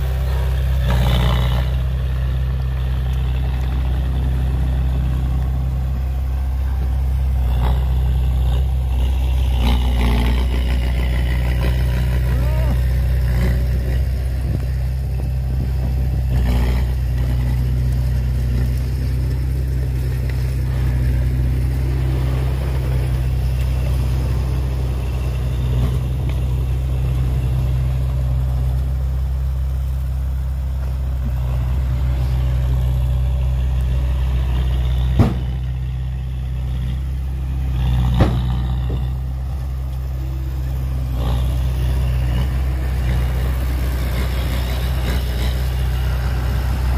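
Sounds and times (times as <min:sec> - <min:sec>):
diesel machinery engine drone: 0:00.0 - 0:46.9.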